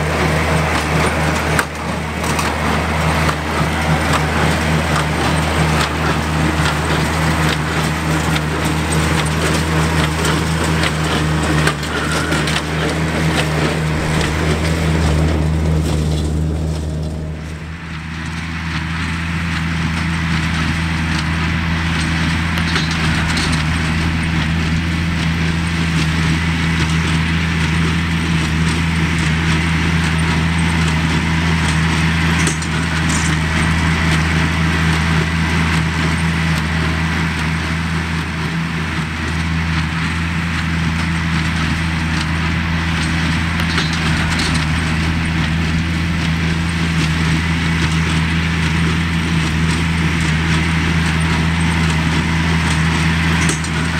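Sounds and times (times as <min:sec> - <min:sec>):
tractor engine under load: 0:00.0 - 0:53.9
baler clattering: 0:00.1 - 0:36.4, 0:39.8 - 0:53.9.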